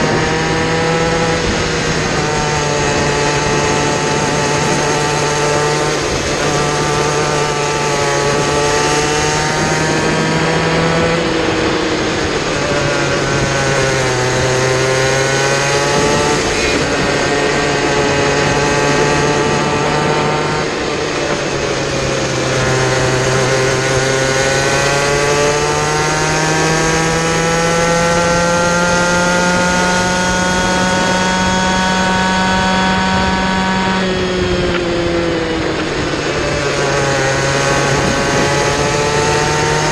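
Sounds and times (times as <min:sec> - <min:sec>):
kart engine revving: 0:00.0 - 0:39.9
wind rush: 0:00.0 - 0:39.9.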